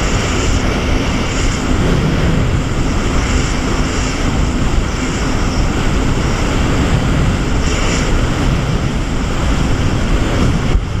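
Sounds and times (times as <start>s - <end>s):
churning water and spray: 0.0s - 11.0s
wind buffeting microphone: 0.0s - 11.0s.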